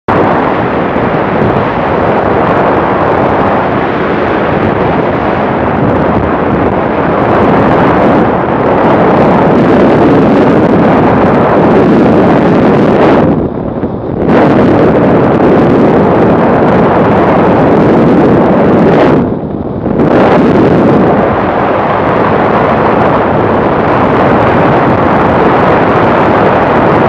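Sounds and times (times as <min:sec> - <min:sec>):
wind buffeting microphone: 0:00.1 - 0:27.0.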